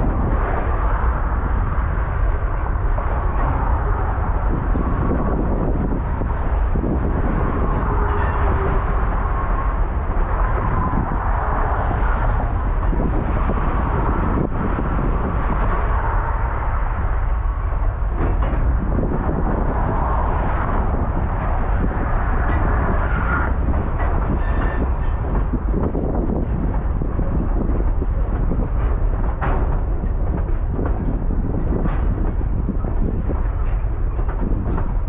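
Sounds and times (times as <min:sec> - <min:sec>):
electric locomotive rumbling: 0:00.0 - 0:35.0.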